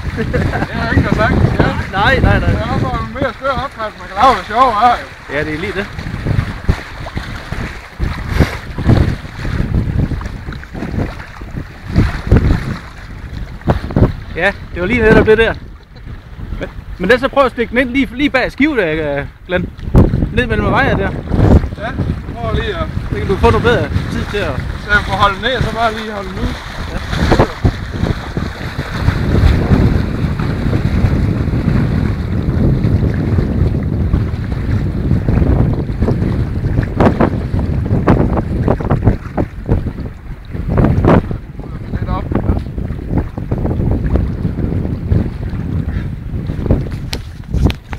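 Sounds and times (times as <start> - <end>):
sea waves washing: 0.0 - 47.9
wind buffeting the microphone: 0.0 - 47.9.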